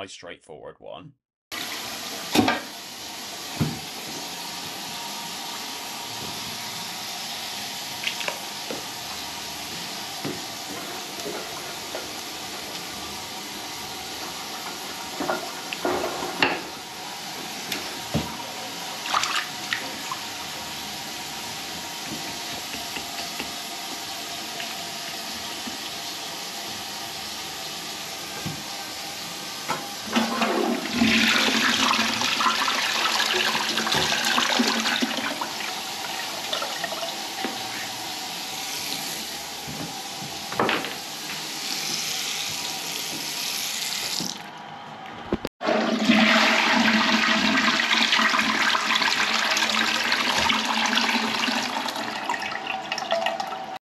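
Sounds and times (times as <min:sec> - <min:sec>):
toilet bowl draining rush: 0:01.5 - 0:39.5, 0:45.6 - 0:53.8
tap water running: 0:01.5 - 0:44.4, 0:45.6 - 0:53.8.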